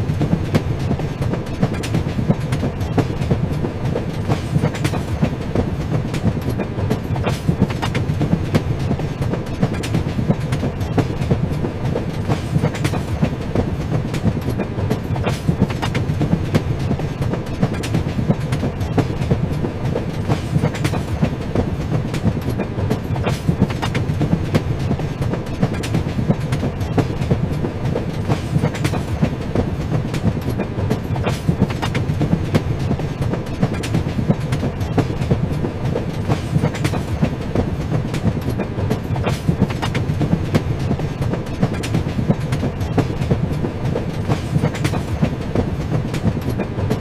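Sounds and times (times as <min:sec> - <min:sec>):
clickety-clack over rail joints: 0:00.0 - 0:47.0
train wheels rumbling: 0:00.0 - 0:47.0.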